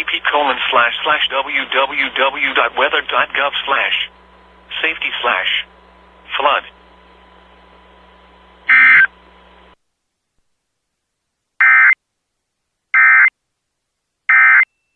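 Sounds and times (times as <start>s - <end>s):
faint background hiss and hum: 0.0s - 14.3s.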